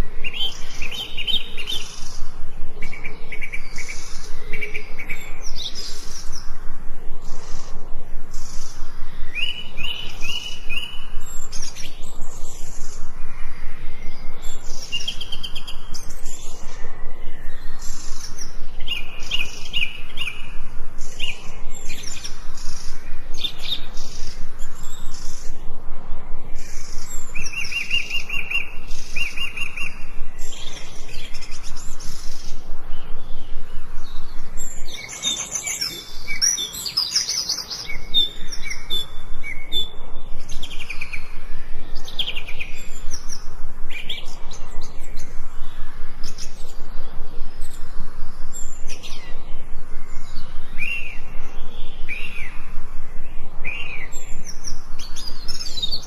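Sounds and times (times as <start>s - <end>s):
birds singing and chirping: 0.0s - 56.0s
pulsing background noise: 0.0s - 56.0s.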